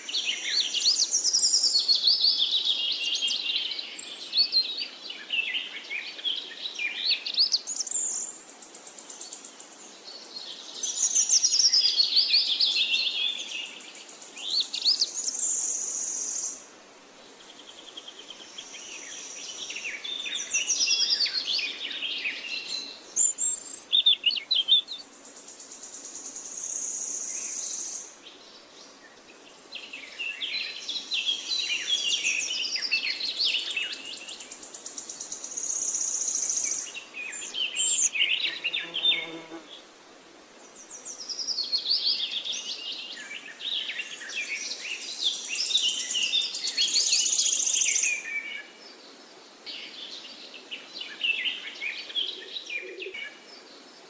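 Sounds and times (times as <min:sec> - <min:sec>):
birds singing and chirping: 0:00.0 - 0:16.6, 0:17.6 - 0:39.6, 0:40.7 - 0:53.9.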